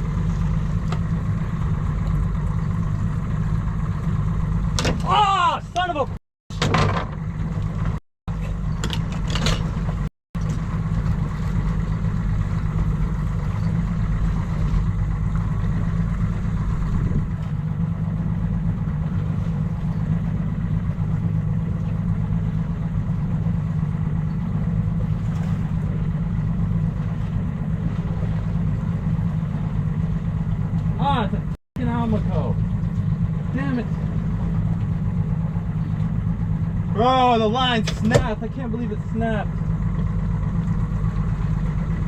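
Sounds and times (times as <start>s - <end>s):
outboard engine humming: 0.0s - 42.0s.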